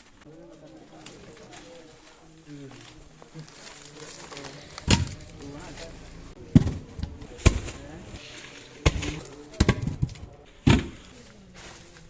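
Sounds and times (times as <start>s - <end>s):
faint voices talking: 0.0s - 12.0s.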